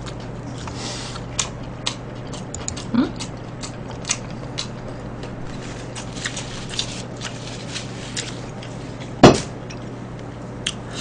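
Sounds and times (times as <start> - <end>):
people chewing food: 0.0 - 11.0
steady low hum: 0.0 - 11.0.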